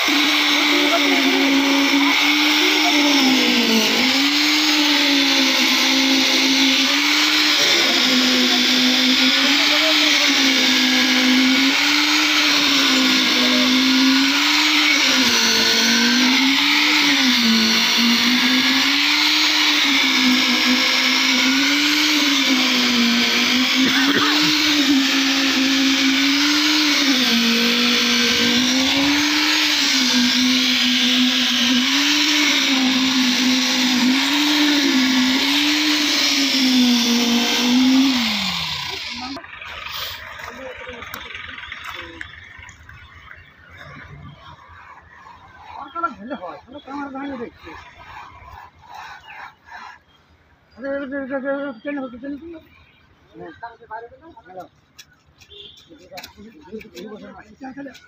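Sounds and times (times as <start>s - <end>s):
machinery motor running: 0.0s - 49.0s.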